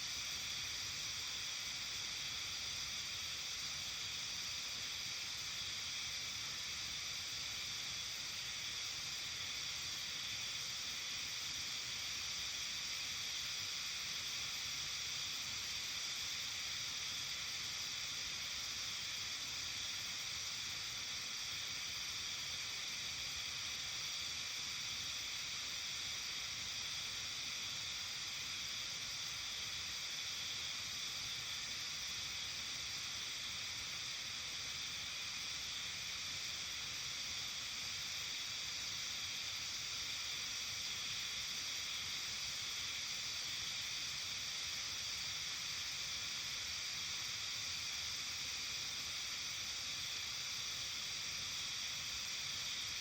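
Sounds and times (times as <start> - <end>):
high-pitched evening hiss: 0.0 - 53.0.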